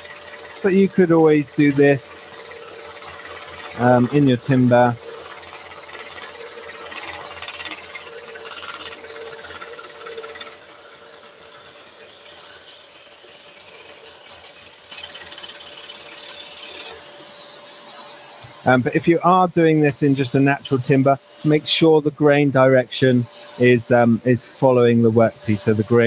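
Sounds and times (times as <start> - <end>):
scroll saw cutting plywood: 0.0 - 26.0.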